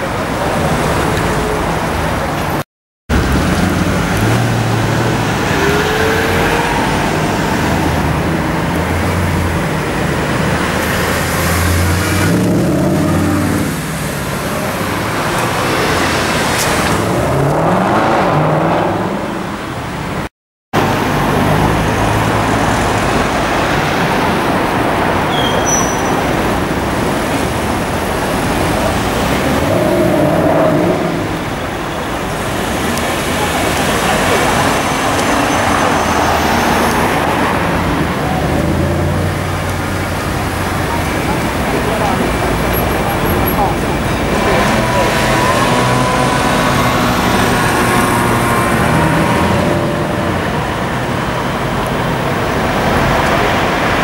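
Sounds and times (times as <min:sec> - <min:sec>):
street traffic noise: 0:00.0 - 0:54.0.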